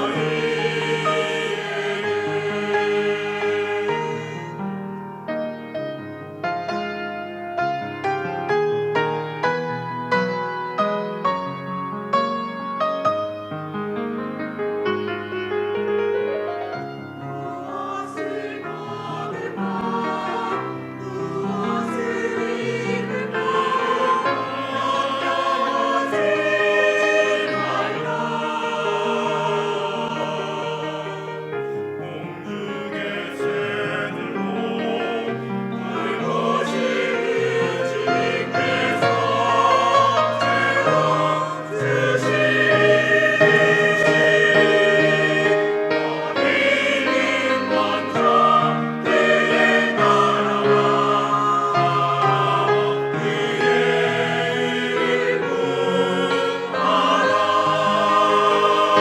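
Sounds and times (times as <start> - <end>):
choir singing a hymn: 0.0 - 11.0, 14.8 - 59.0
keyboard accompaniment: 0.0 - 59.0.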